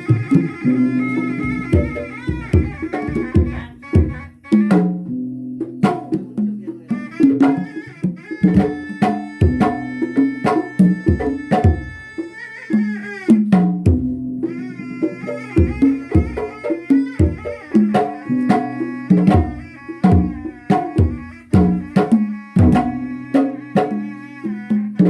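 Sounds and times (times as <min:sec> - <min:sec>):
bending reed horn melody: 0:00.0 - 0:05.0, 0:07.0 - 0:13.3, 0:14.4 - 0:25.0
hand drums beating busy rhythm: 0:00.0 - 0:25.0.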